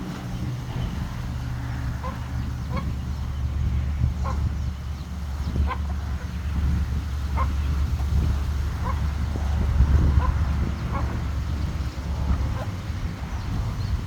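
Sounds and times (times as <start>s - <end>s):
steady low rumble: 0.0s - 14.0s
chickens clucking: 1.6s - 3.4s, 4.0s - 14.0s.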